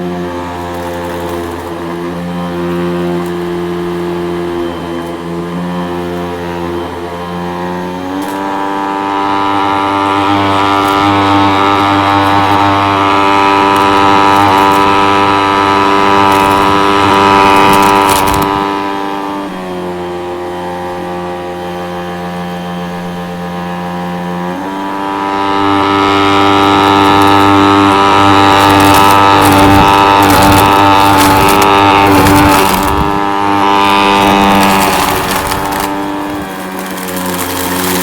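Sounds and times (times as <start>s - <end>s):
vacuum cleaner motor humming: 0.0s - 38.0s.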